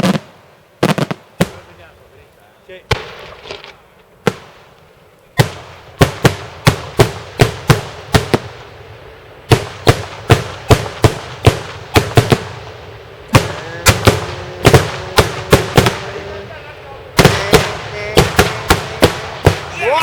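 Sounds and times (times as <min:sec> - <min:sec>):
fireworks bangs with echo: 0:00.0 - 0:04.8, 0:05.4 - 0:20.0.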